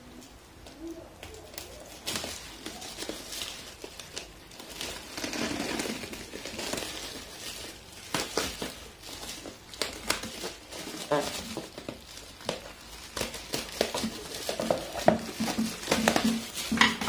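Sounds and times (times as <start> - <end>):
plastic crinkling and rustling: 0.0 - 17.0
bubble wrap snapping: 0.6 - 17.0
scissors snipping bubble wrap: 1.2 - 17.0.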